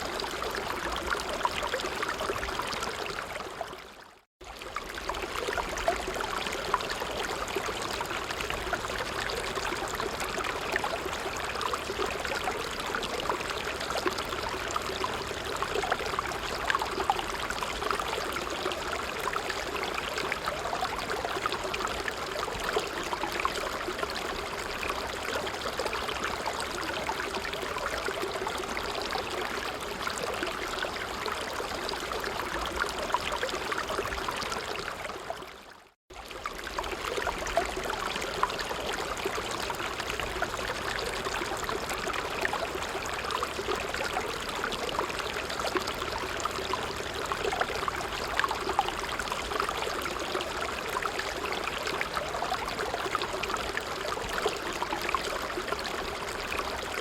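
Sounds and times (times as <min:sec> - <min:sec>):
creek flowing: 0:00.0 - 0:57.0.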